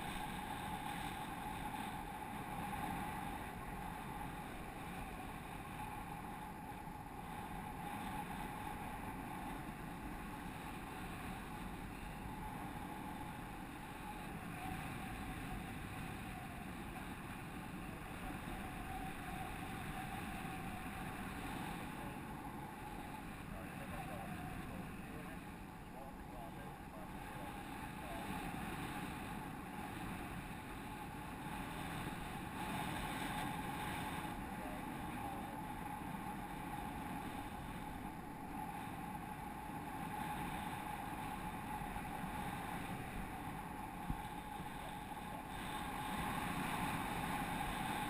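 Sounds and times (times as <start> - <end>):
faint steady hum: 0.0 - 48.0
wind rushing over microphone: 0.0 - 48.0.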